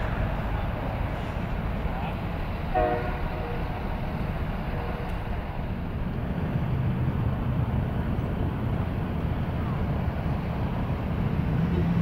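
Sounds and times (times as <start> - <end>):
jet engines low rumble: 0.0 - 12.0.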